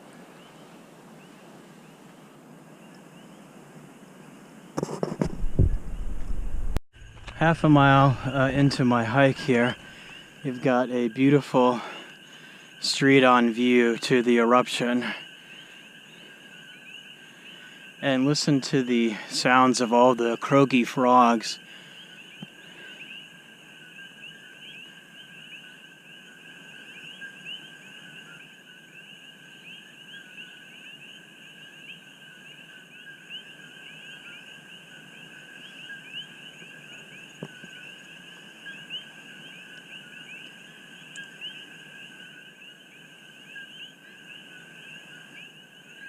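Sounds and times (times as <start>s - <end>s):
chorus of frogs calling: 7.2s - 46.0s.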